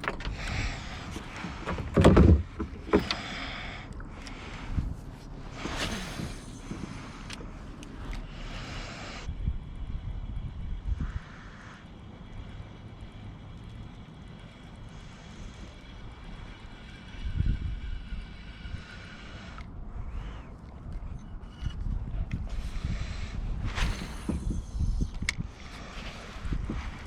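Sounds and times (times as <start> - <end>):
distant engine drone: 0.0 - 27.0.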